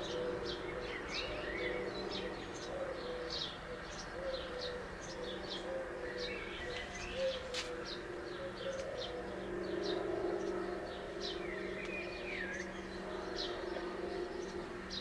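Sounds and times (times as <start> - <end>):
dove cooing: 0.0 - 15.0
small birds chirping: 0.0 - 15.0.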